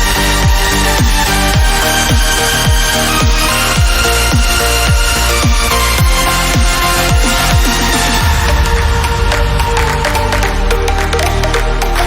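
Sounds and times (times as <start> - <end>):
deep kick drum: 0.0 - 10.7
electronic music with steady beat: 0.0 - 12.0.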